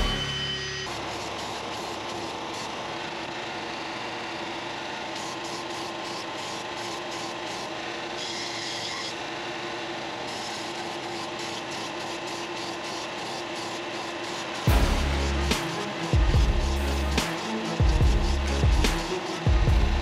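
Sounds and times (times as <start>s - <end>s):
belt sander humming: 0.0s - 20.0s
wood grinding on abrasive belt: 0.0s - 20.0s.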